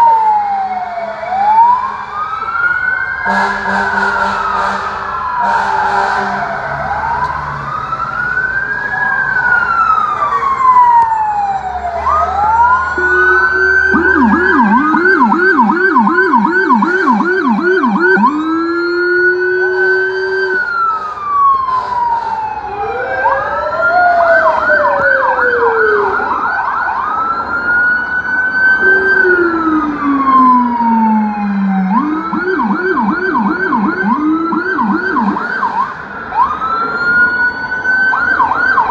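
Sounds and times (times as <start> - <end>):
emergency sirens wailing and yelping: 0.0 - 38.9
low-pitched siren: 0.0 - 38.9.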